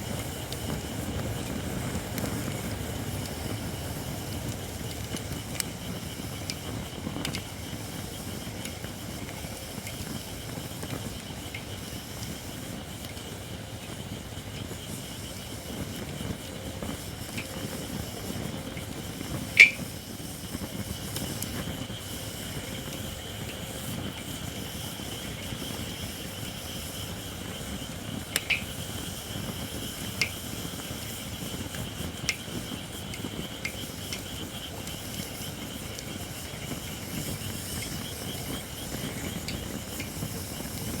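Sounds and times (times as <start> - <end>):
campfire burning: 0.0 - 41.0
crackling fire pops: 0.0 - 41.0.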